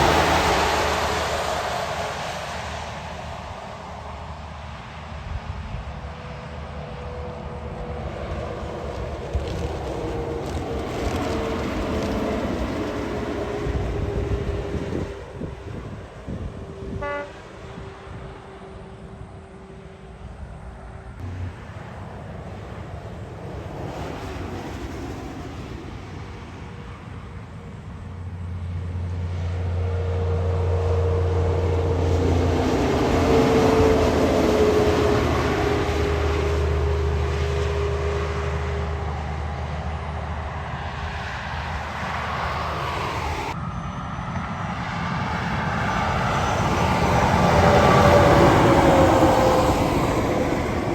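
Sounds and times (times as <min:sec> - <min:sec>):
vehicle approaching: 0:00.0 - 0:17.0, 0:17.7 - 0:50.9
truck diesel engine passing: 0:00.0 - 0:50.9.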